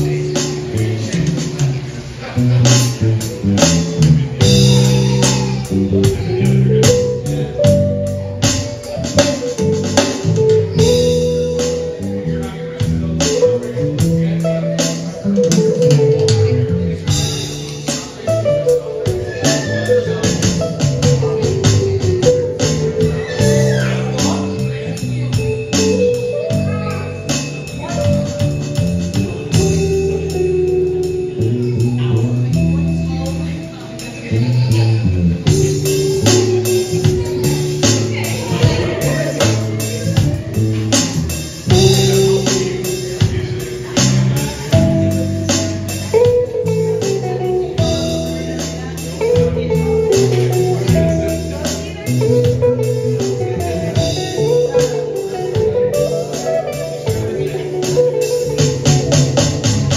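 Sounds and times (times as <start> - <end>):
drums: 0.0 - 59.9
electric bass: 0.0 - 59.9
electric guitar: 0.0 - 59.9.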